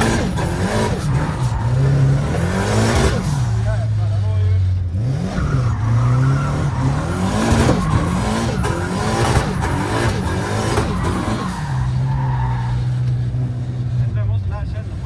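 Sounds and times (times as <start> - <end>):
car engine revving: 0.0 - 15.0
tyres skidding and squealing: 0.0 - 15.0.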